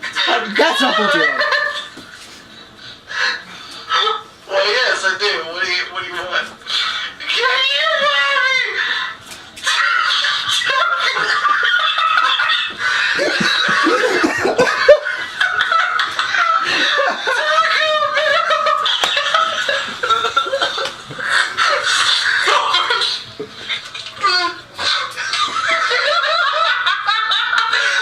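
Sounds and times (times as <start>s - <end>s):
people laughing: 0.0s - 2.1s, 6.7s - 28.0s.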